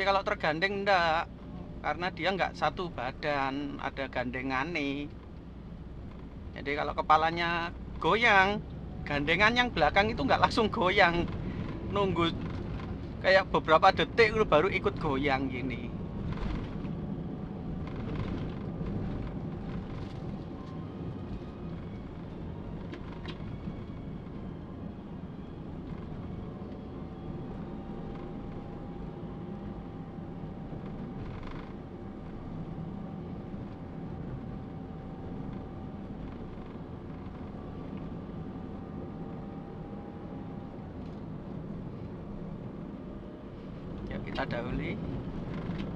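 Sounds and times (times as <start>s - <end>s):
car road and engine rumble: 0.0s - 45.9s
faint steady whine: 0.0s - 45.9s.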